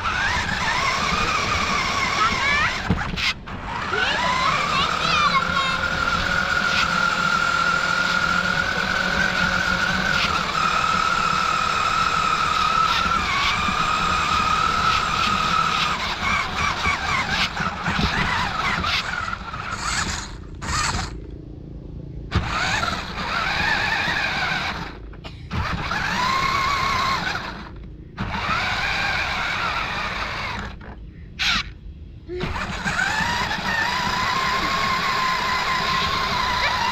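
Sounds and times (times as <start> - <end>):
electric motor whining: 0.0 - 21.4, 22.3 - 36.9
low rumble from wheels: 0.0 - 36.9.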